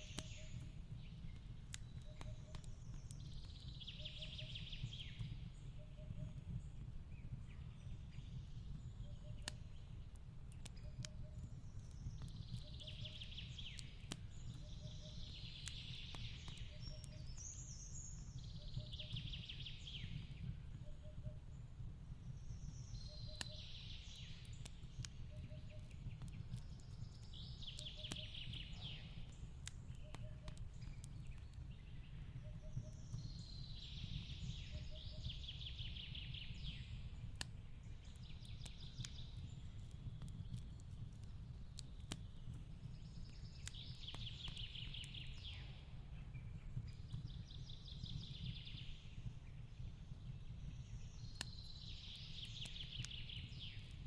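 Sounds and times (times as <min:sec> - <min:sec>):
fireplace crackling and popping: 0:00.0 - 0:54.0.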